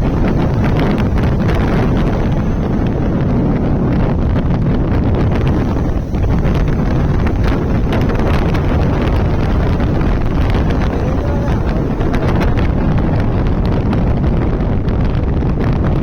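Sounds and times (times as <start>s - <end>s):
motorcycle engine running: 0.0s - 15.3s
wind buffeting microphone: 0.0s - 16.0s.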